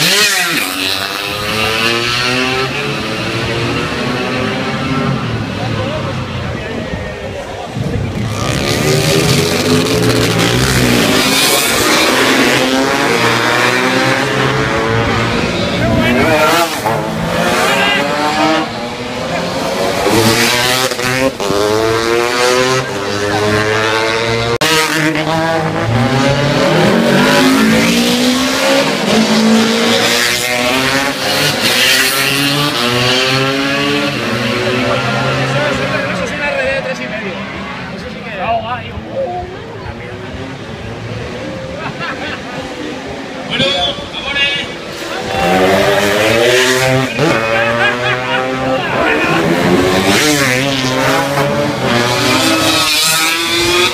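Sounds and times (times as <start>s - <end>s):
racing motorcycles passing: 0.0s - 53.9s.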